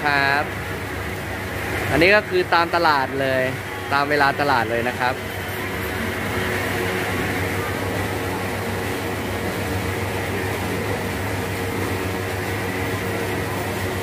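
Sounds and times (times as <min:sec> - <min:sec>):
electric fan whirring: 0:00.0 - 0:14.0.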